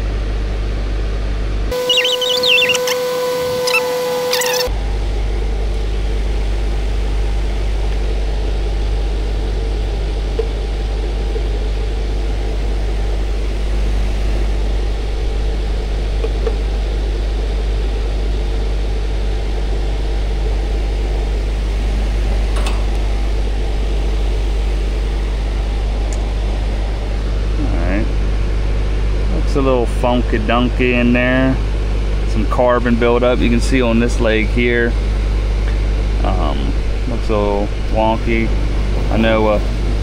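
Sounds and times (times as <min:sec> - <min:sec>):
air conditioner unit humming: 0:00.0 - 0:40.0.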